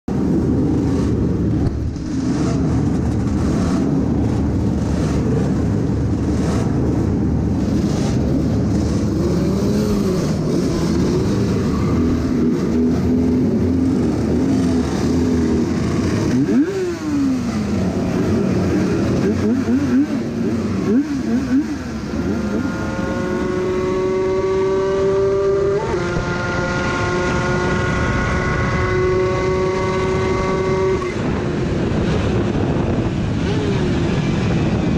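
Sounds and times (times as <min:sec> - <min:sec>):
other racing motorcycles: 0:00.1 - 0:34.9
rushing wind: 0:00.1 - 0:34.9
two-stroke motorcycle engine revving: 0:00.3 - 0:34.9.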